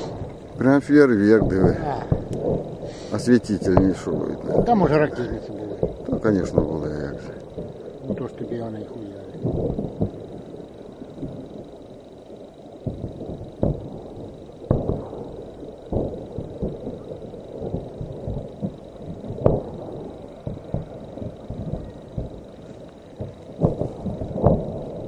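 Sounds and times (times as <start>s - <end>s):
loud cracks: 0.0s - 12.2s, 12.8s - 25.0s
low rumble: 0.0s - 25.0s.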